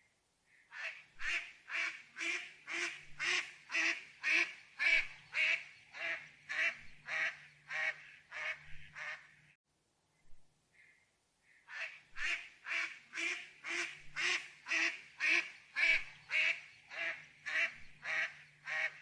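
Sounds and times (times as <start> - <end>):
bird calling: 0.5 - 9.6, 10.7 - 19.0.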